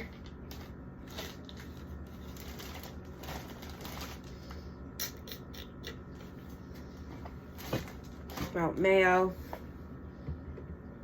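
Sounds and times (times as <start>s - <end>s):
refrigerator hum: 0.0s - 11.0s.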